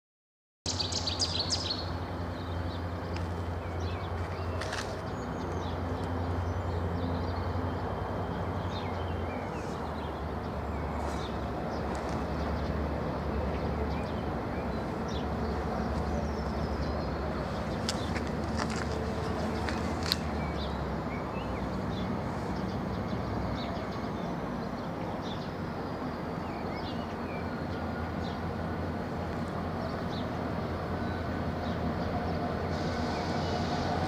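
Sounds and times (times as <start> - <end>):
birds chirping: 0.7 - 34.0
distant diesel locomotive rumble: 0.7 - 34.0.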